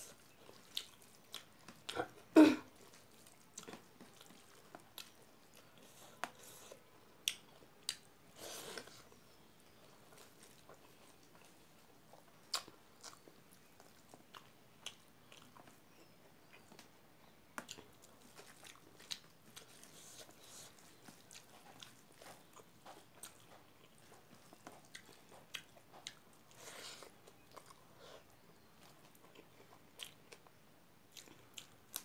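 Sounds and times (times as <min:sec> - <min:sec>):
person chewing rice: 0:00.0 - 0:16.9, 0:17.5 - 0:32.0.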